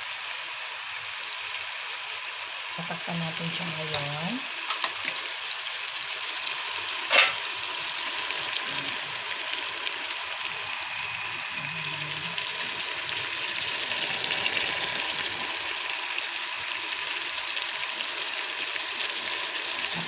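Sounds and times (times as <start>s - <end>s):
chicken sizzling in a pot: 0.0s - 20.0s.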